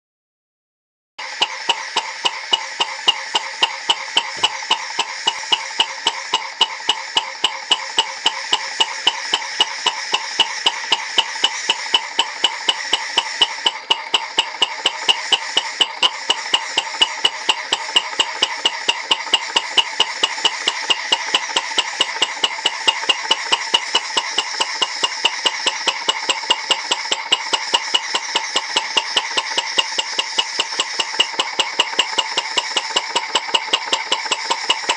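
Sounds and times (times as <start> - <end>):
model engine ticking: 1.2 - 34.9.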